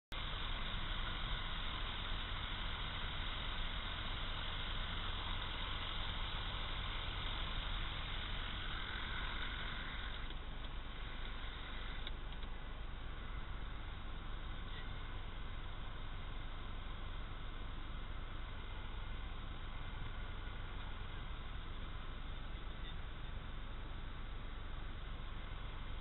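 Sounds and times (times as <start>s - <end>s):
light aircraft engine and propeller: 0.1s - 26.0s.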